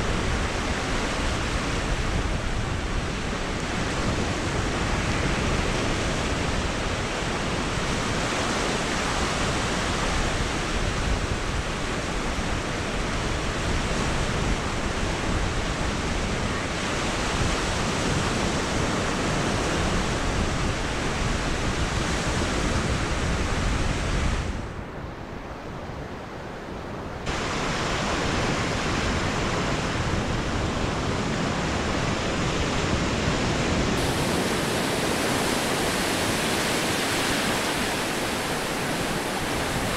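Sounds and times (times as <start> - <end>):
surf washing onto beach: 0.0 - 24.7, 27.2 - 39.9
wind noise: 0.0 - 39.9.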